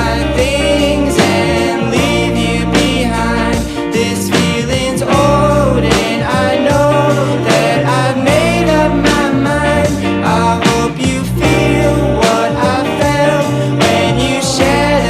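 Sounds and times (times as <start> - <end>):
guitar: 0.0 - 15.0
person singing: 0.0 - 15.0
steady beat: 0.0 - 15.0.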